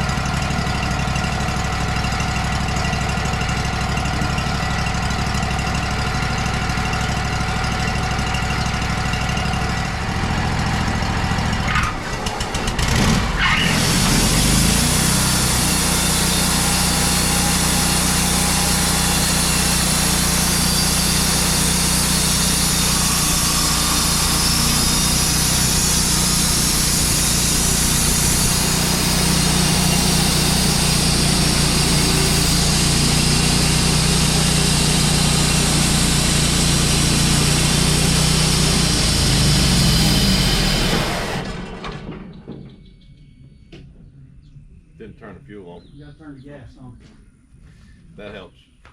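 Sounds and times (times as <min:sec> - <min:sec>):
sawmill gas engine running: 0:00.0 - 0:42.4.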